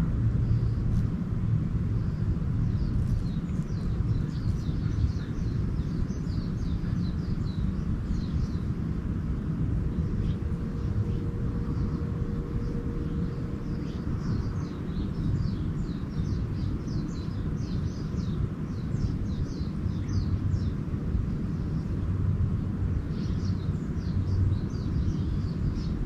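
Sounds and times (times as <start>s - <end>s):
steady low rumble: 0.0s - 26.0s
songbirds twittering: 0.3s - 26.0s.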